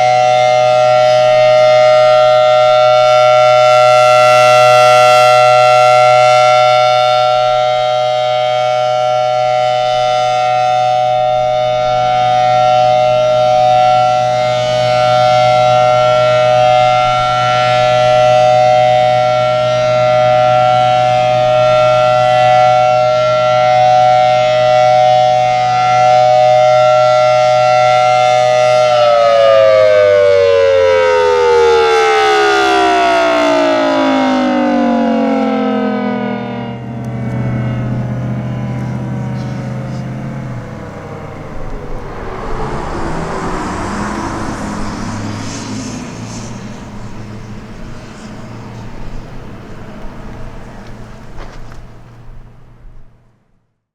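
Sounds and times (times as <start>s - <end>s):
outdoor warning siren: 0.0s - 53.4s.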